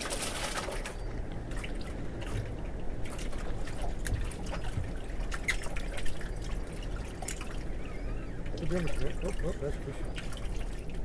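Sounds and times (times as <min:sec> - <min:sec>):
small water splashes: 0:00.0 - 0:11.0
water lapping against boat hull: 0:00.0 - 0:11.0.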